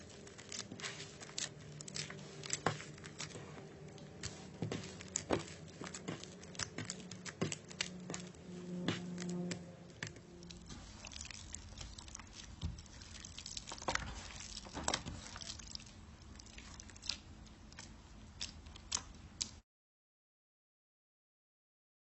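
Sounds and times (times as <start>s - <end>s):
slime squishing: 0.0s - 19.6s.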